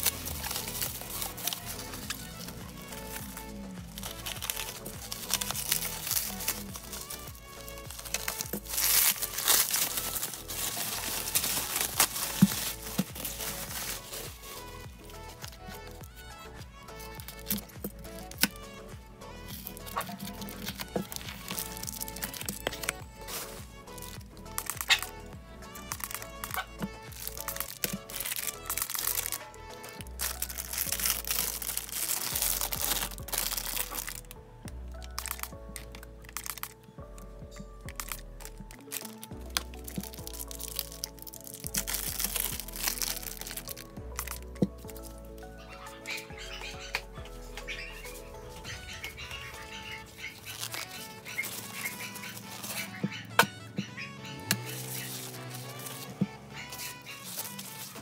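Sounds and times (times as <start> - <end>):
background music with bass line: 0.0 - 58.0
bubble wrap crinkling: 0.0 - 58.0.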